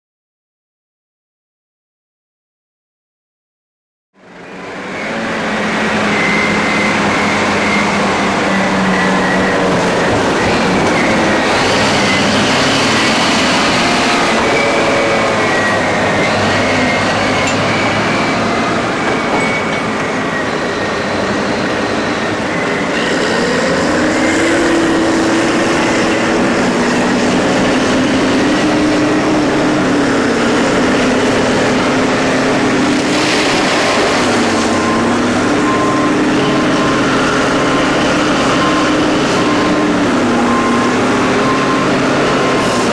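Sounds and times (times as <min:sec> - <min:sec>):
haul truck diesel engine: 0:04.2 - 0:42.9
high-pitched whine: 0:04.2 - 0:42.9.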